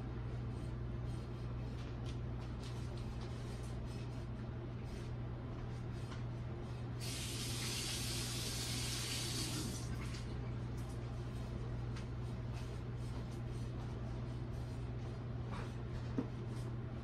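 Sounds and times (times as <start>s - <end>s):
constant low hum: 0.0s - 8.6s, 9.2s - 17.0s.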